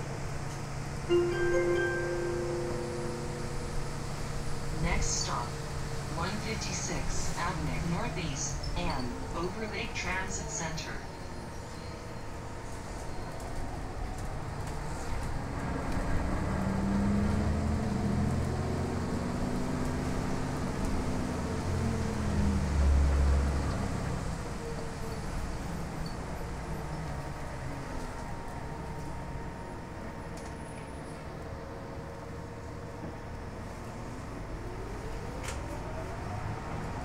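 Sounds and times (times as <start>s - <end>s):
bus drivetrain drone: 0.0s - 37.0s
road noise: 0.0s - 37.0s.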